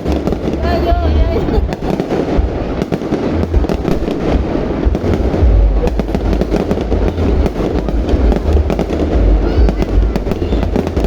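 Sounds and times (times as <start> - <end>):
deep rumble of booms: 0.0 - 11.0
fireworks crackling bangs: 0.0 - 11.0.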